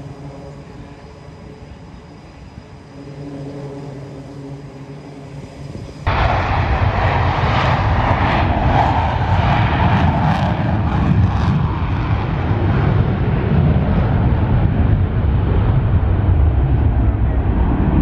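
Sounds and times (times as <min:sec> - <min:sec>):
jet engines humming: 0:00.0 - 0:18.0
loud rushing jet roar: 0:00.0 - 0:18.0.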